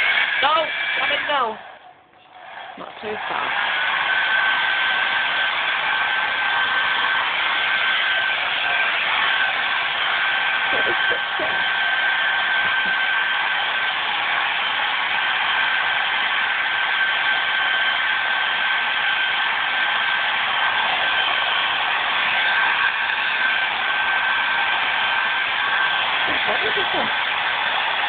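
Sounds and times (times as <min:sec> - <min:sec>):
hair dryer running: 0:00.0 - 0:01.7, 0:02.8 - 0:28.0.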